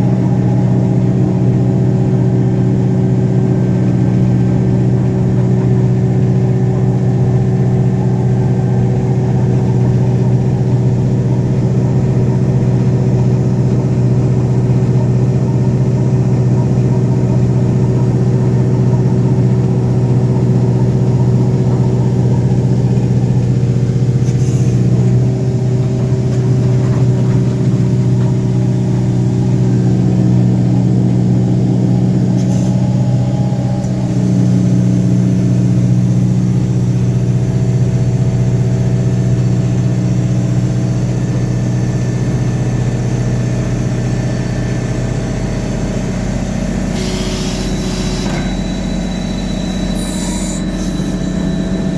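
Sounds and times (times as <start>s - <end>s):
drill rig engine drone: 0.0s - 51.9s.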